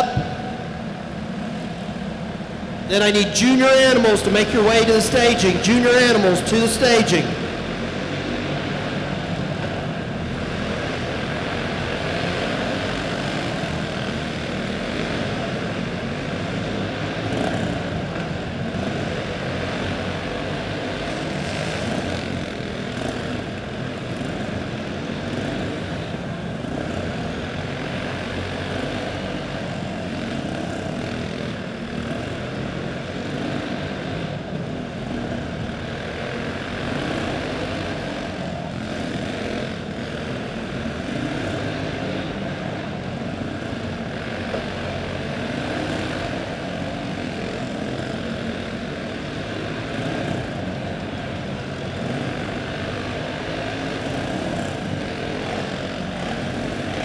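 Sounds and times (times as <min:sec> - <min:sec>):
racing kart engines buzzing: 0:00.0 - 0:57.0.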